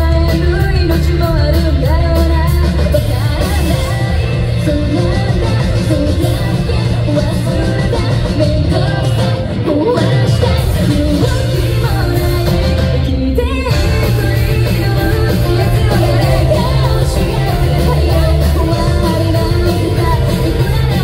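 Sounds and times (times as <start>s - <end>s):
live rock band playing: 0.0s - 21.0s
woman singing: 0.0s - 21.0s.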